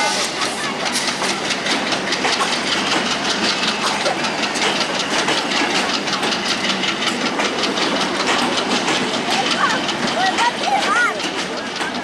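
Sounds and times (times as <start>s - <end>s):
train rumbling and hissing: 0.0s - 12.0s
wheels clacking over rail joints: 0.0s - 12.0s.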